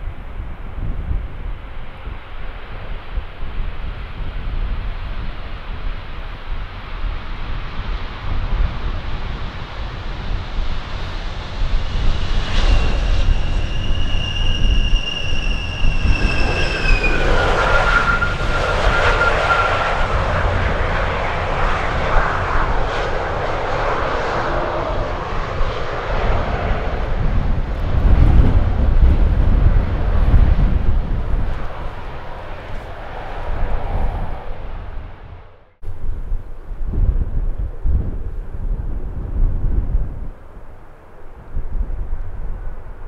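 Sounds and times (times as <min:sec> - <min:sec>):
jet engine whine: 0:00.0 - 0:43.0
wind buffeting microphone: 0:00.0 - 0:43.0
jet engines rushing: 0:00.5 - 0:37.0.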